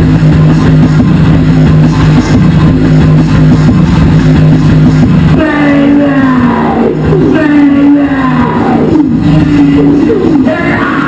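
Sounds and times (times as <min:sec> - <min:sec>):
noise rock music: 0:00.0 - 0:11.0.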